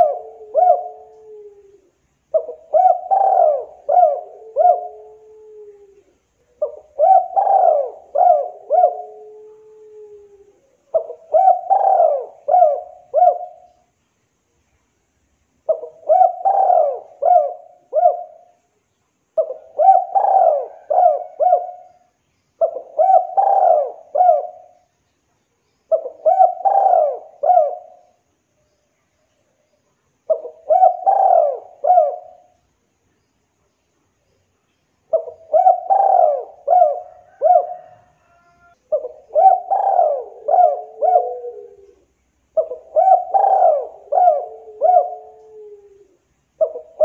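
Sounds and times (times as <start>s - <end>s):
dove cooing: 0.0s - 13.8s, 15.6s - 18.6s, 19.4s - 24.9s, 25.9s - 28.2s, 30.3s - 32.6s, 35.1s - 47.0s.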